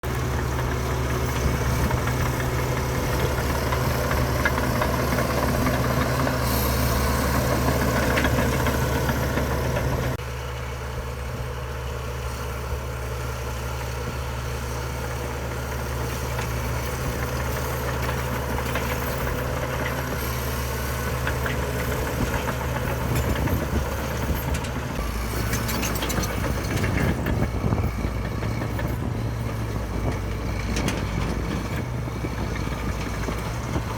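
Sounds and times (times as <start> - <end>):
heavy machinery diesel engine drone: 0.0 - 33.9.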